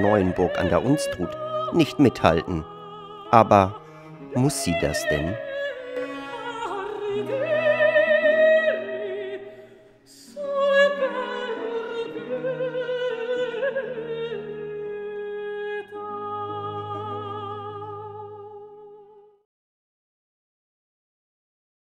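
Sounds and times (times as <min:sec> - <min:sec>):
operatic voice singing: 0:00.0 - 0:18.9.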